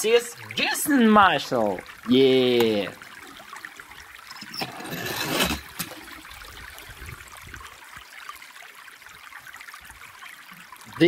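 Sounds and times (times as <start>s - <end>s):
water rushing: 0.0s - 11.0s
water trickling: 0.0s - 11.0s.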